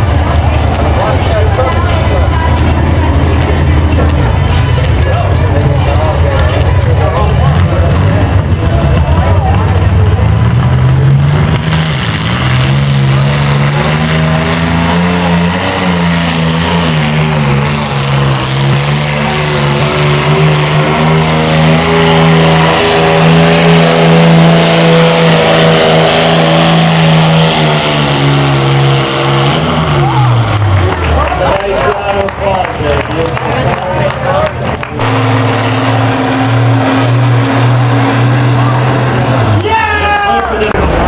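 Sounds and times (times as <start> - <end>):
tractor engine at full throttle: 0.0 - 41.0.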